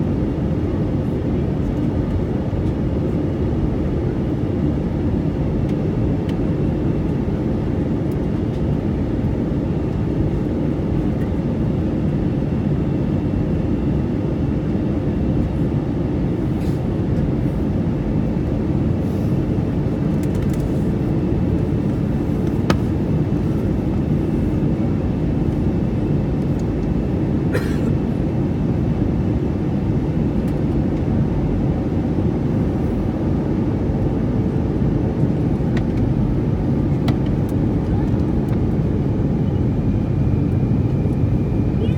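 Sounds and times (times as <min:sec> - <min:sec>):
airliner cabin engine rush: 0:00.0 - 0:41.9.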